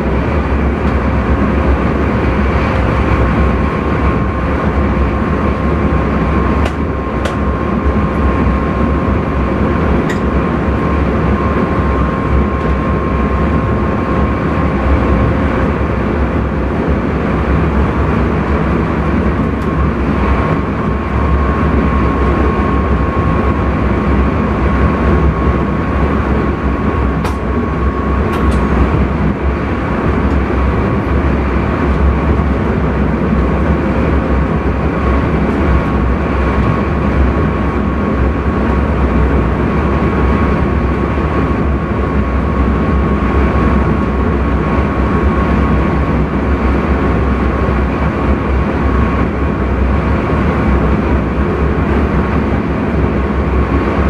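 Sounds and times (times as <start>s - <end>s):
train rumble and rail noise: 0.0s - 54.0s.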